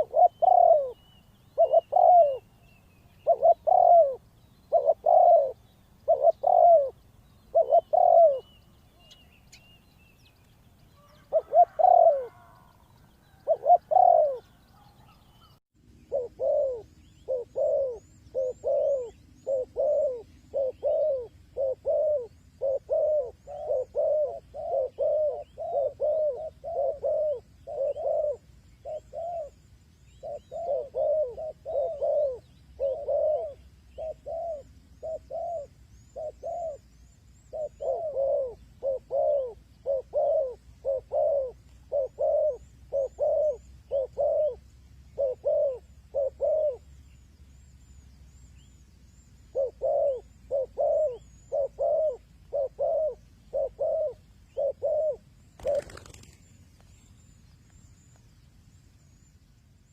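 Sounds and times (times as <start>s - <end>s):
dove cooing: 0.0s - 9.2s, 11.0s - 47.6s, 49.1s - 56.4s
small birds chirping: 0.0s - 59.9s.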